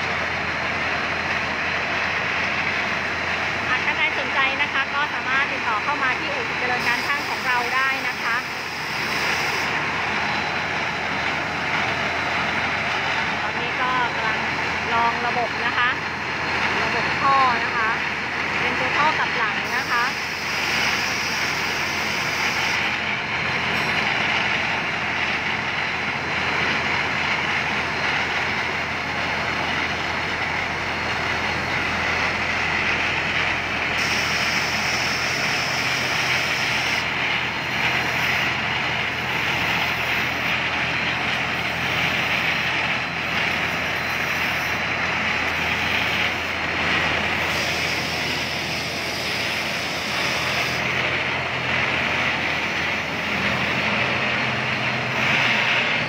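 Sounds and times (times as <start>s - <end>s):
combine harvester diesel engine: 0.0s - 56.0s.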